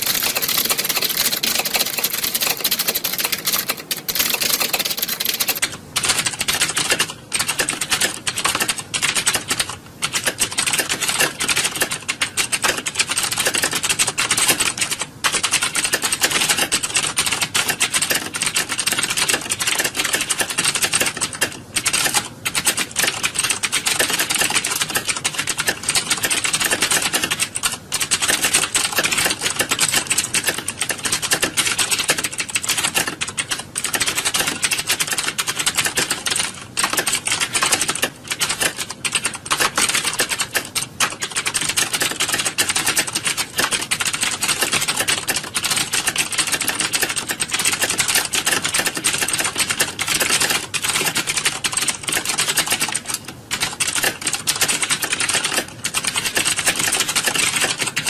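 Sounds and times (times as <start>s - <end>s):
many keyboards typing: 0.0s - 58.0s.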